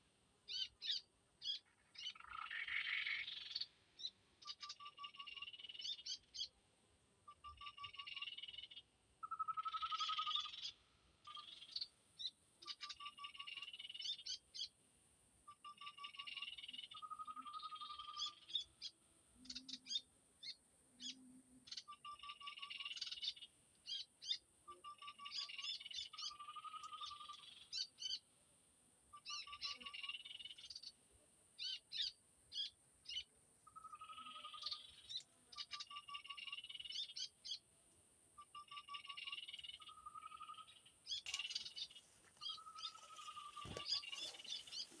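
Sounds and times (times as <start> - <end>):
small birds calling: 0.0 - 6.6, 7.2 - 14.8, 15.5 - 28.3, 29.1 - 31.0, 31.6 - 37.7, 38.4 - 45.0.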